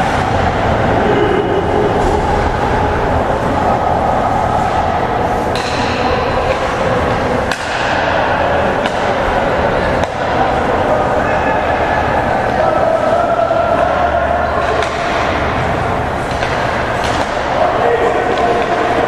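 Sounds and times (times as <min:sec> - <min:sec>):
ice hockey rink din: 0:00.0 - 0:19.0.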